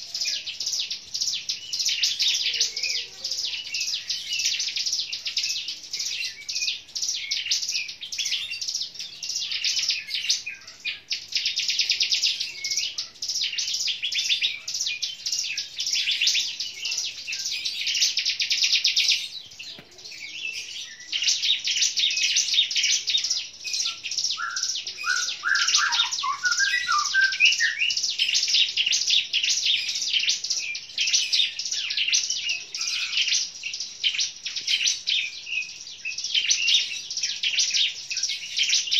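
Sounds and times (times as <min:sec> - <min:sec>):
bird trilling chirps: 0:00.0 - 0:38.9.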